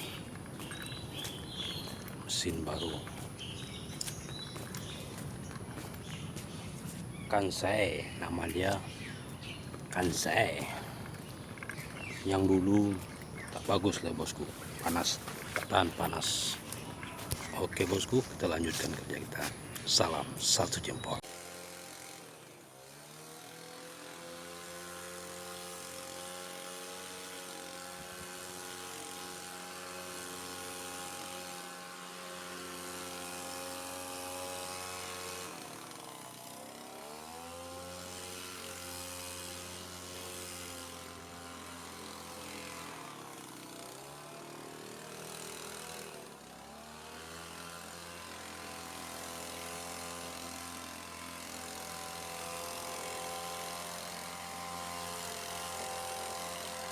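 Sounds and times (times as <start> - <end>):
petrol blower engine: 0.0 - 56.9.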